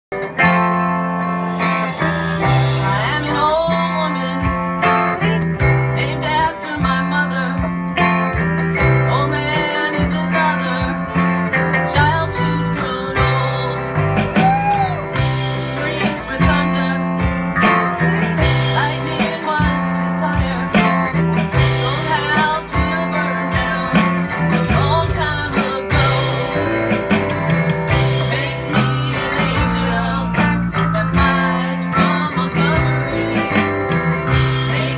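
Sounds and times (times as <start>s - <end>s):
bass line: 0.1s - 34.9s
blues-rock band playing: 0.1s - 34.9s
electric guitar: 0.1s - 34.9s.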